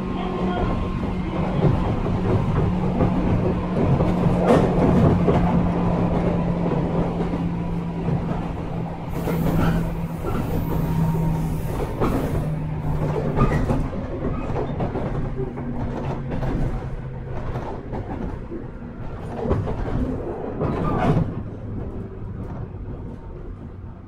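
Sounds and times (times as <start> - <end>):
train running on rails: 0.0 - 24.0
wheels clacking over rail joints: 0.2 - 23.8.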